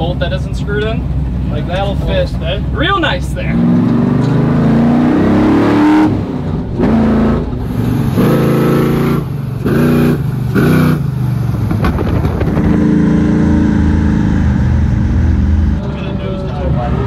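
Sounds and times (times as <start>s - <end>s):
race truck engine revving: 1.0s - 17.0s.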